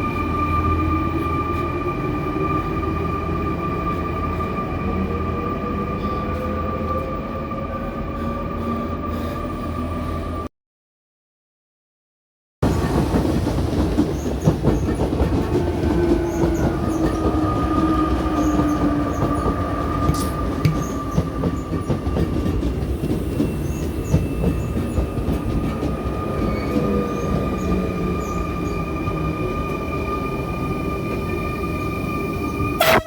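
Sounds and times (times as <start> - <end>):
electric train rumbling on rails: 0.0 - 10.5, 12.6 - 33.0
train wheel squeal: 0.0 - 10.5, 13.9 - 33.0.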